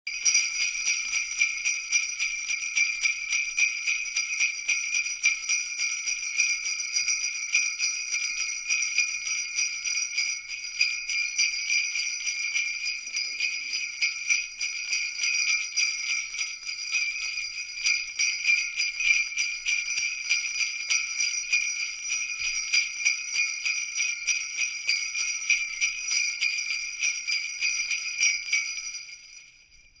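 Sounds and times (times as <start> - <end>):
jingle bells shaken: 0.0 - 30.0.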